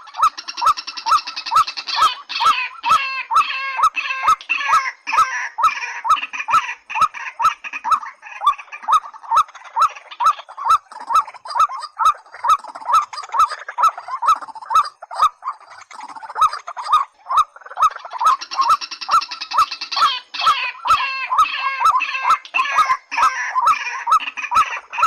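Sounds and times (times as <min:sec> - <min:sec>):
birds calling hollow notes: 0:00.0 - 0:25.0.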